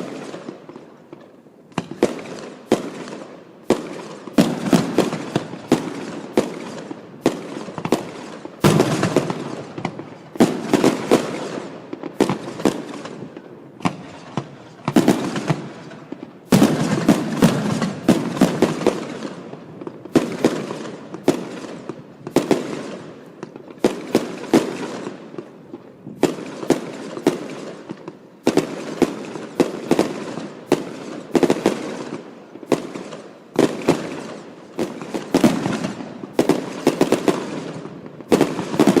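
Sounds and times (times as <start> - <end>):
fireworks bursting with echo: 0.0 - 39.0.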